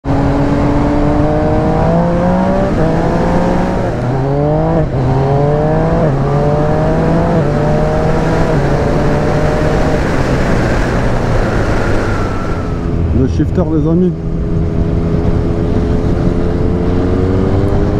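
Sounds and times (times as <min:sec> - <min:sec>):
motorcycle engine accelerating and shifting: 0:00.0 - 0:17.9.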